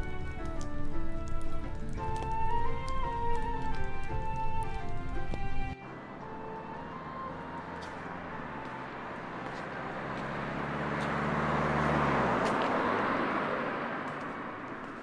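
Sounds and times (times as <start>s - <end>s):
vehicle driving past: 0.0s - 15.0s.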